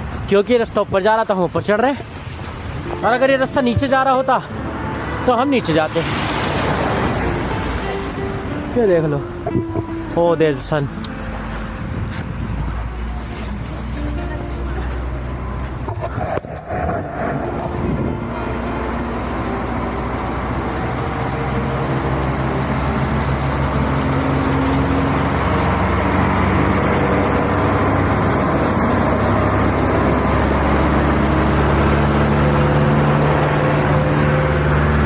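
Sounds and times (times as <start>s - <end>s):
road noise: 0.0s - 35.0s
bus engine droning: 1.7s - 35.0s.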